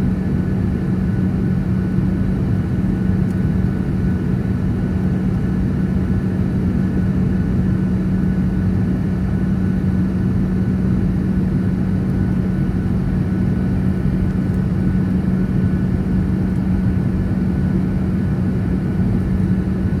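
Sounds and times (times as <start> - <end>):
constant low hum: 0.0 - 20.0
engine and airflow drone: 0.0 - 20.0.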